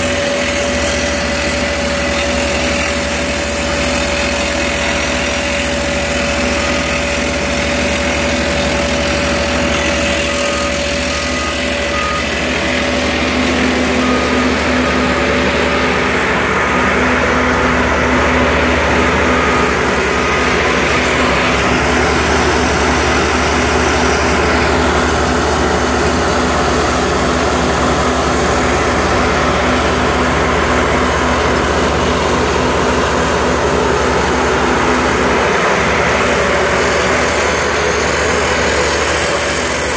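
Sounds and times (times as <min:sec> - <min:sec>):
hydraulic drill rig running: 0:00.0 - 0:39.9.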